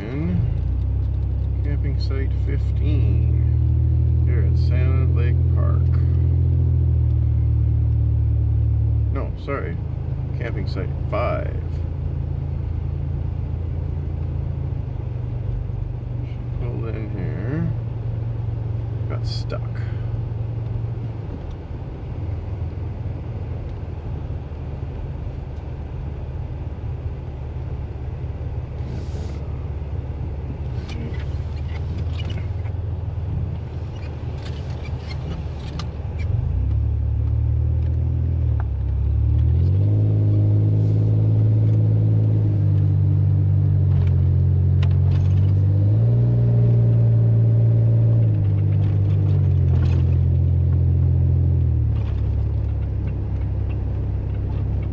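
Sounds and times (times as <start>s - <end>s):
vehicle engine idling and revving: 0.0s - 54.9s.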